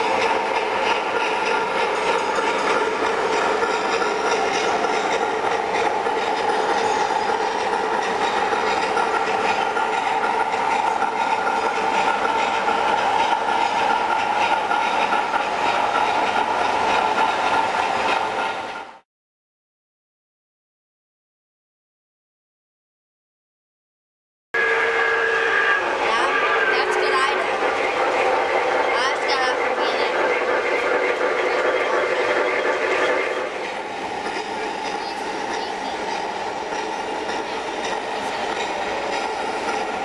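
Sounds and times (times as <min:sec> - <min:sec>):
model trains whirring rattle: 0:00.0 - 0:19.0, 0:24.6 - 0:40.0.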